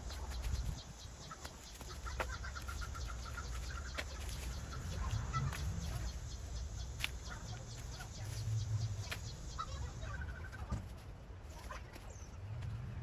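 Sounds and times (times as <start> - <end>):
bird clucking: 0.0 - 10.9
weeds rustling: 0.0 - 12.3.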